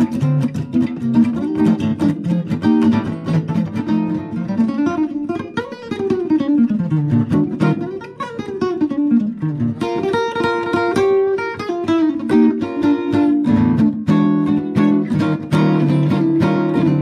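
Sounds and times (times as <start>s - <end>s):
electric guitar playing: 0.0s - 17.0s.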